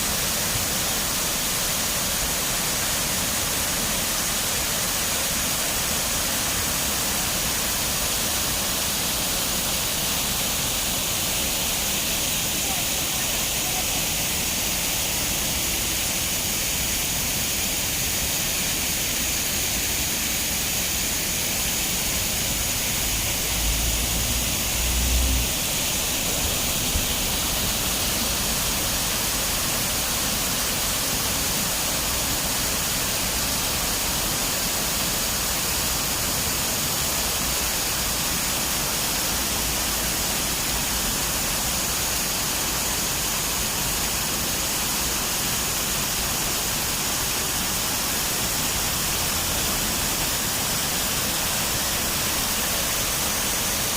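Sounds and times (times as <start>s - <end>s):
water pouring down waterfall: 0.0s - 53.9s.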